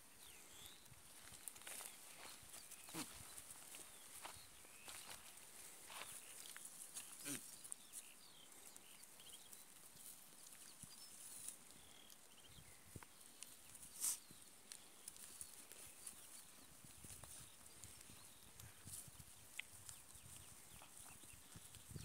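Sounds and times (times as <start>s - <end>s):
faint chirps: 0.0s - 22.0s.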